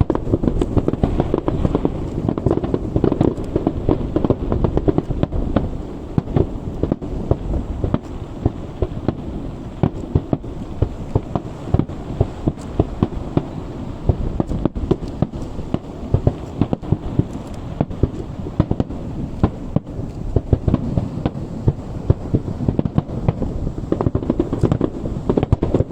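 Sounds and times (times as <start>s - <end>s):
fireworks bursts and bangs: 0.0s - 25.9s
rumble of explosions: 0.0s - 25.9s.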